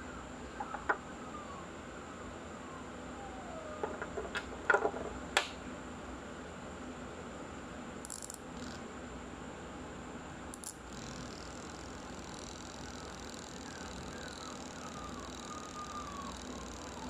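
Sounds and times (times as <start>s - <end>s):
steady faint hum: 0.0s - 17.0s.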